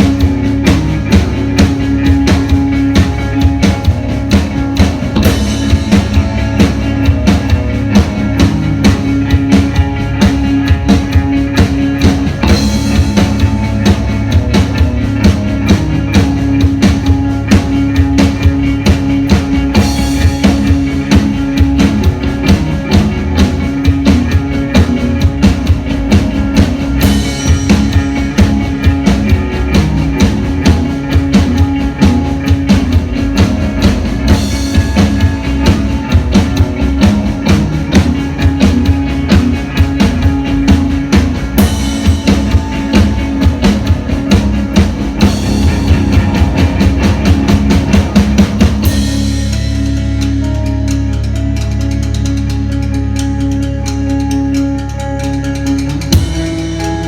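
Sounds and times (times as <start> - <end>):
drum kit fast beat: 0.0 - 57.0
rock band playing live: 0.0 - 57.0.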